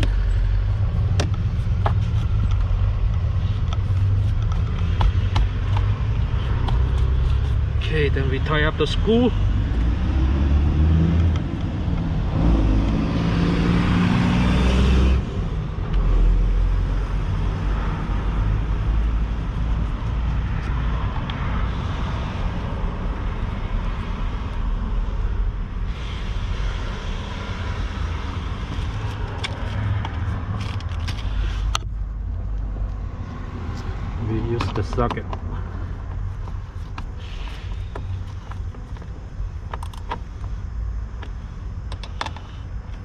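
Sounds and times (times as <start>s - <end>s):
motor vehicle rumble: 0.0s - 43.0s.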